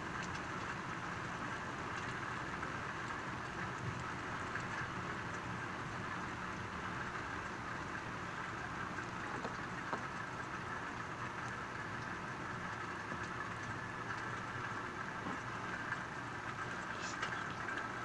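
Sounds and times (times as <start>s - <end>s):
raindrop ticks: 0.0s - 18.0s
steady rain hiss: 0.0s - 18.0s.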